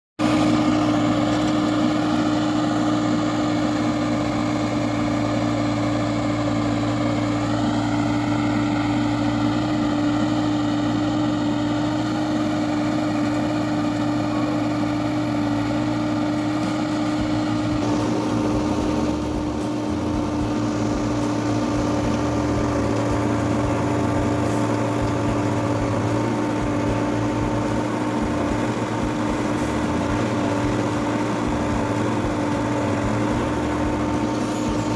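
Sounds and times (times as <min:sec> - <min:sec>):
engine drone: 0:00.2 - 0:34.9.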